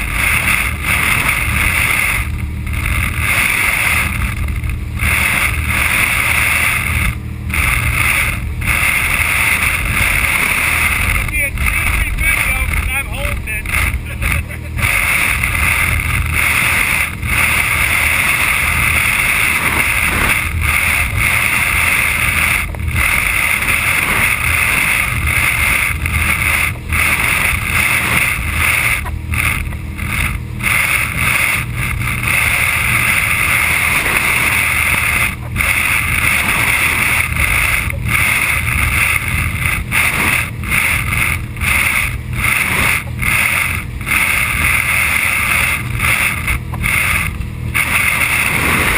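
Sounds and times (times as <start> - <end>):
boat under way rushing: 0.0 - 48.9.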